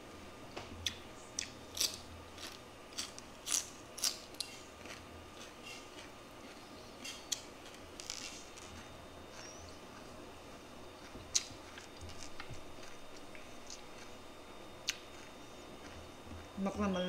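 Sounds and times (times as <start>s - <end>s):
person chewing celery: 0.8s - 16.6s.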